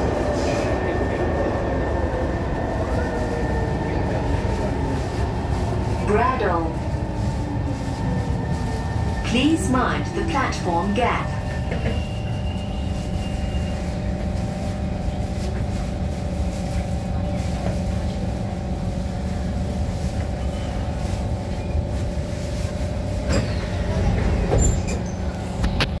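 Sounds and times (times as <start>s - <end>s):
train car hum: 0.0s - 26.0s.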